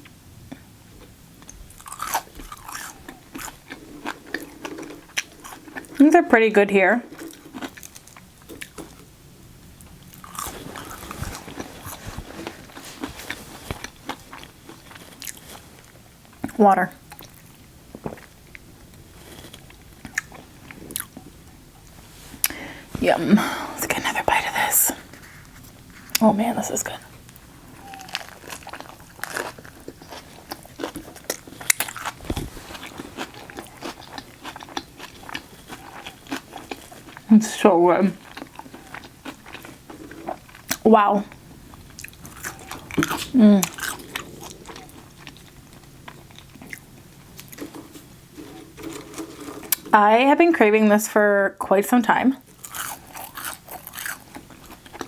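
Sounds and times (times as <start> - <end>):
person chewing food with crunching: 0.5 - 6.1, 7.1 - 22.9, 26.9 - 49.9, 52.4 - 55.0.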